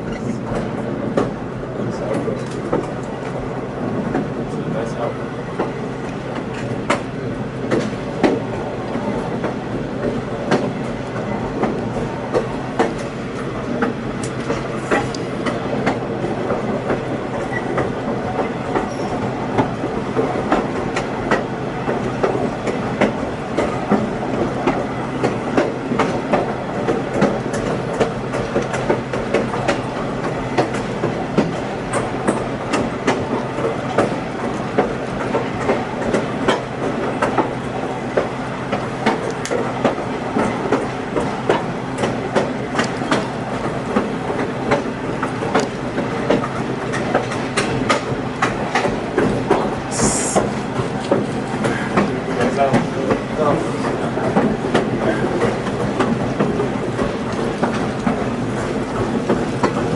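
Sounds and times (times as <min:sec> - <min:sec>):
train rumble from aboard: 0:00.0 - 0:59.9
wheels clicking on track: 0:00.0 - 0:59.9.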